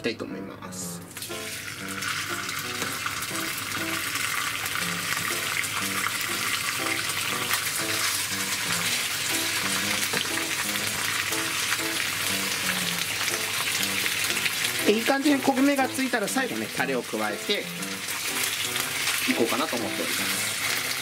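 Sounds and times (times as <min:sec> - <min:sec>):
light background music: 0:00.0 - 0:21.0
chicken sizzling in oil: 0:01.1 - 0:21.0.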